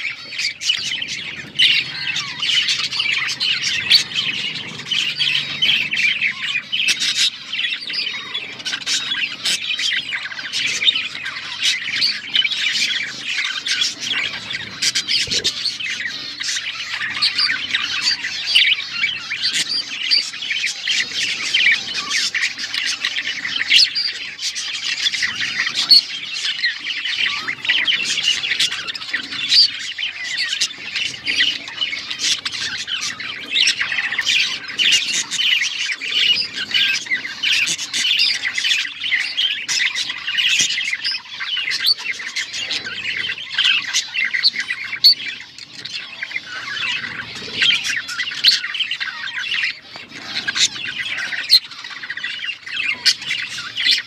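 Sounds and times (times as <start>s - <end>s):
budgerigar warbling: 0.0s - 54.0s.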